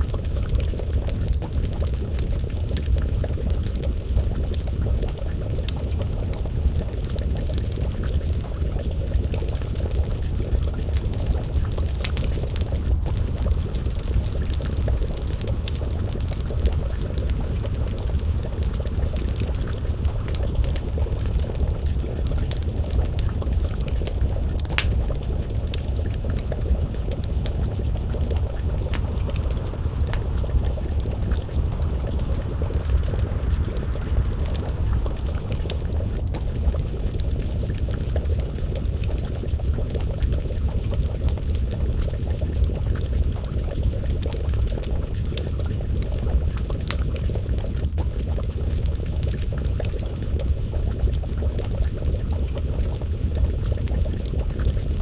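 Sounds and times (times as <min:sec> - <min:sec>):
low rumble of fire: 0:00.0 - 0:55.0
stew simmering and bubbling: 0:00.0 - 0:55.0
wood fire crackling and popping: 0:00.0 - 0:55.0.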